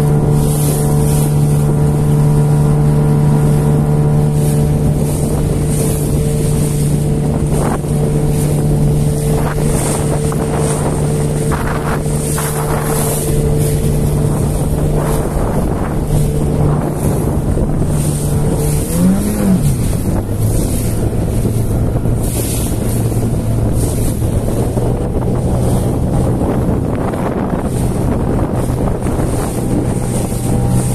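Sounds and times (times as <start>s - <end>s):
outboard motor running: 0.0s - 30.9s
water splashing against hull: 0.0s - 30.9s
wind buffeting microphone: 0.0s - 30.9s.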